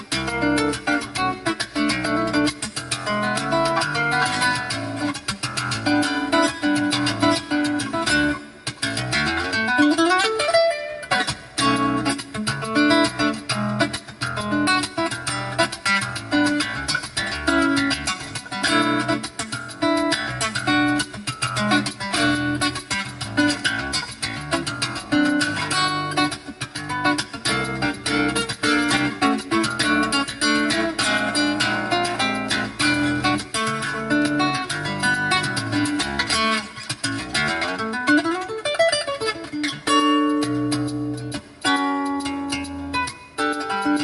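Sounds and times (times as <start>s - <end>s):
acoustic guitar music: 0.0s - 44.0s
shaker rhythm: 0.0s - 44.0s.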